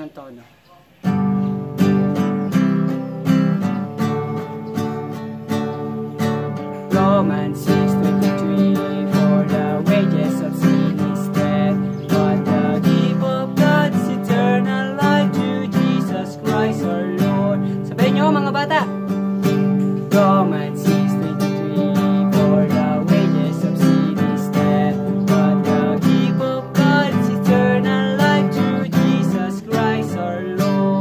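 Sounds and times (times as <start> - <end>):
acoustic guitar strumming: 0.9 - 31.0
man singing: 4.0 - 31.0.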